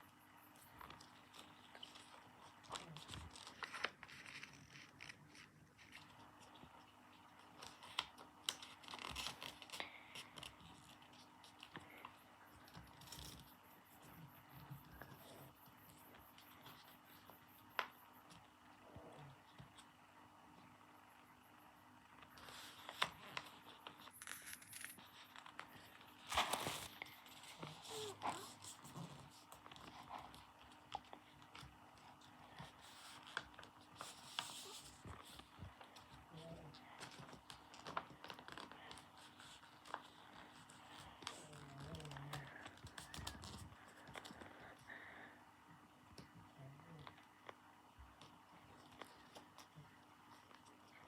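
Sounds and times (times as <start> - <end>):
paper rustling and crinkling: 0.5 - 18.8, 22.1 - 45.0, 47.0 - 51.0.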